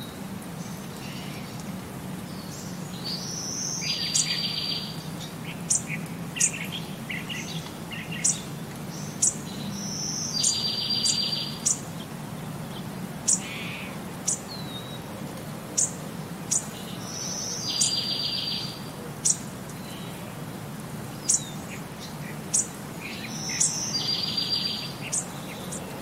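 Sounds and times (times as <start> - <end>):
birds chirping sharply: 2.4 - 15.0, 15.8 - 20.2, 21.2 - 26.0.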